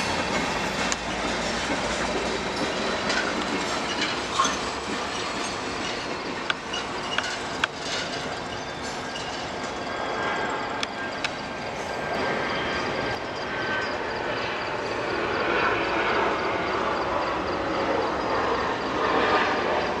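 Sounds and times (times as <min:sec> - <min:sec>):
passenger train rolling by: 0:00.0 - 0:20.0.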